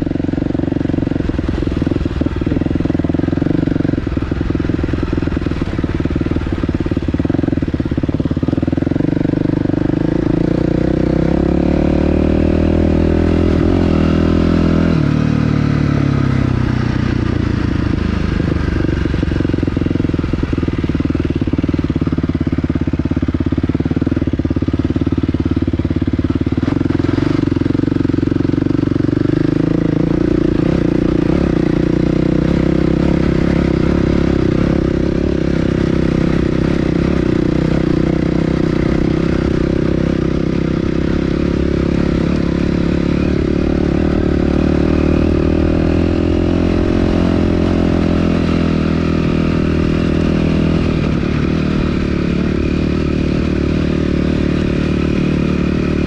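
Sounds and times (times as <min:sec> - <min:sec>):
dirt bike engine revving: 0:00.0 - 0:22.6, 0:26.2 - 0:56.0.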